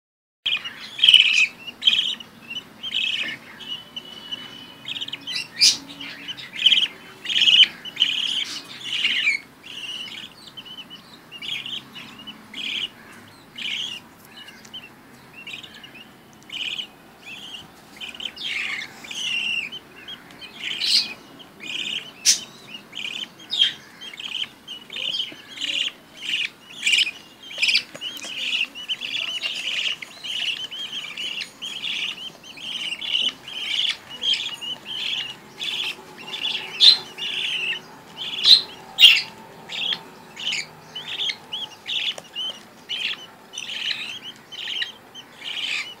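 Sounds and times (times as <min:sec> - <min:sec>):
bird chicks cheeping: 0:00.4 - 0:46.0.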